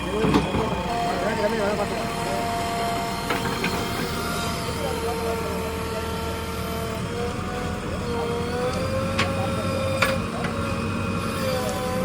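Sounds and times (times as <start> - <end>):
diesel engine running: 0.0 - 12.0
wavering whine: 0.0 - 12.0.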